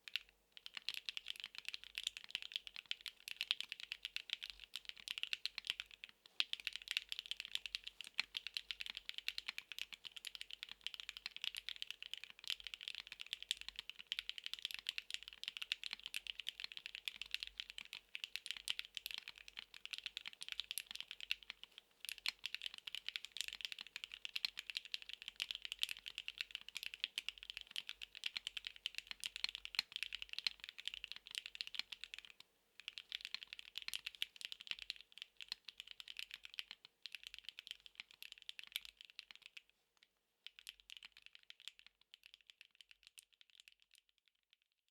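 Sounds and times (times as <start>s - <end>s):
fast typing on mechanical keyboard: 0.1s - 39.6s, 40.5s - 43.9s.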